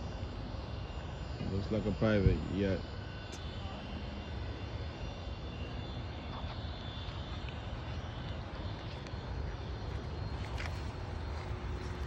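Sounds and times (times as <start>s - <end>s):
distant jet engines rumbling: 0.0s - 12.0s
faint high engine whine: 0.0s - 12.0s.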